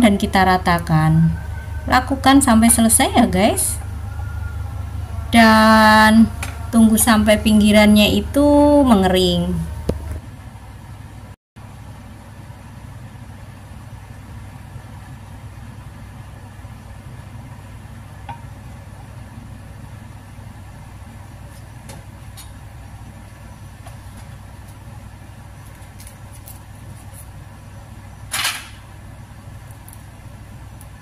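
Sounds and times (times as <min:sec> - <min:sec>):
gas burner rumbling: 0:00.0 - 0:31.0.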